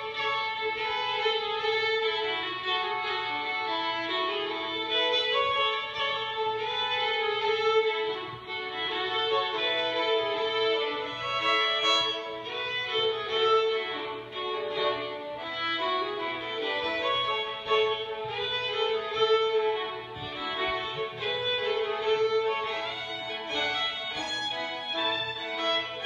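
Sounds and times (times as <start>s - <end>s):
two fiddles playing a duet: 0.0s - 26.0s.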